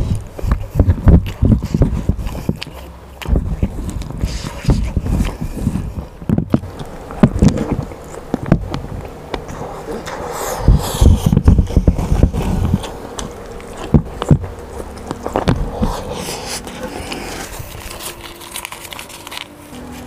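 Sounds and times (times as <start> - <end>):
chewing and biting food: 0.0 - 20.0.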